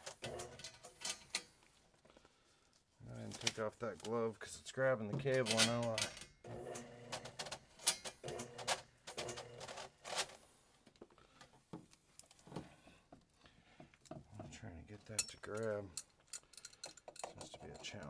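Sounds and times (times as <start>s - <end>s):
steel cable clicks and rattles: 0.0s - 1.8s, 3.2s - 4.2s, 5.1s - 18.0s.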